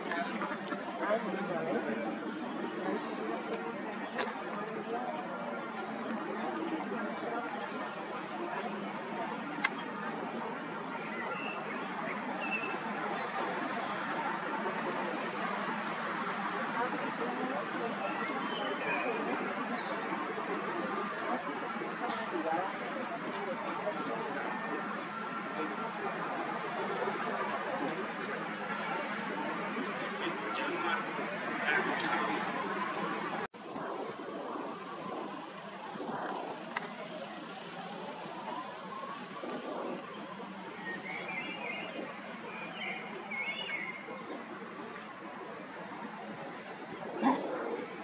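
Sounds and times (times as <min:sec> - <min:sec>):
steady background rush: 0:00.0 - 0:48.0.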